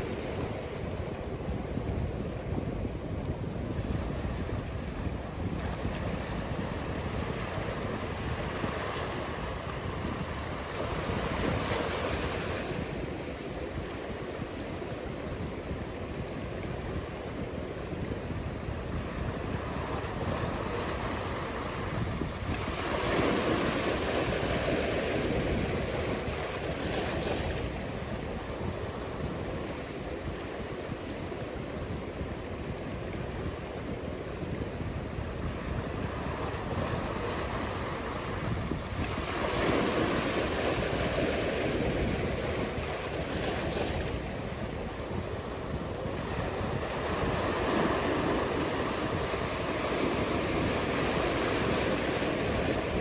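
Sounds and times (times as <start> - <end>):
ocean surf breaking: 0.0 - 53.0
wind buffeting microphone: 0.0 - 53.0.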